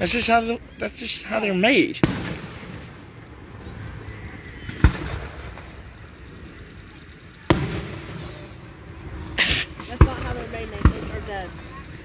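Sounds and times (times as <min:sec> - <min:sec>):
firework bursts: 0:00.0 - 0:12.0
low steady background noise: 0:00.0 - 0:12.0.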